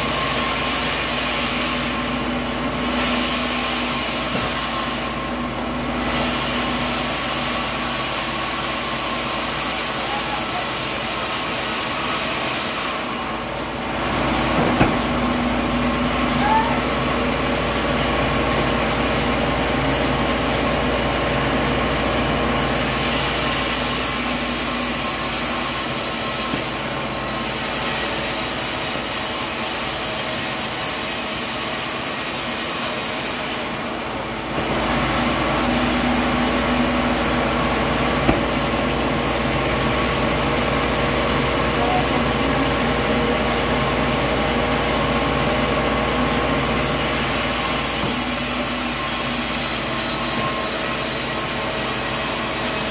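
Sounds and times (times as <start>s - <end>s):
sawmill machinery humming: 0.0s - 52.9s.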